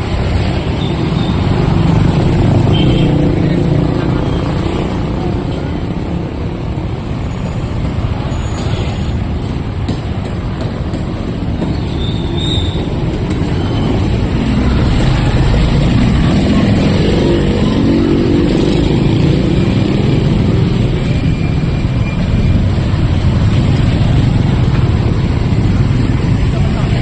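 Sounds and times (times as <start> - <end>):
vehicle engines passing: 0.0 - 27.0.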